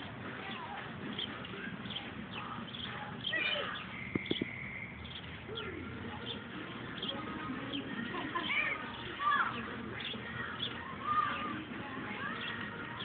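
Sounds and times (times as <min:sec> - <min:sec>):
distant children calling and squealing: 0:00.3 - 0:13.0.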